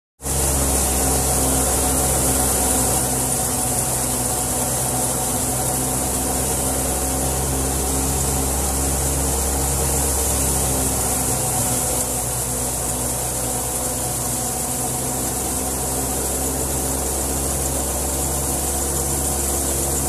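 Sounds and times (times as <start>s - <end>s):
thresher mechanical drone: 0.2s - 20.0s.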